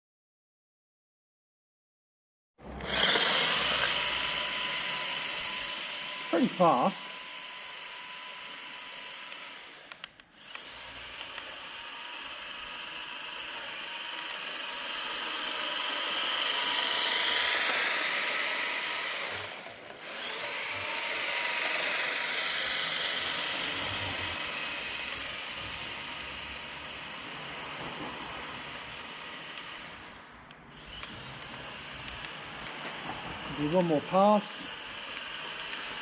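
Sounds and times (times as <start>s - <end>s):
electric motor whining: 2.6s - 36.0s.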